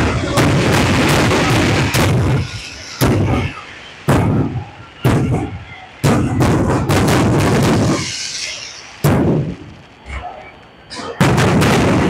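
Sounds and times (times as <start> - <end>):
firework shells bursting: 0.0 - 10.2.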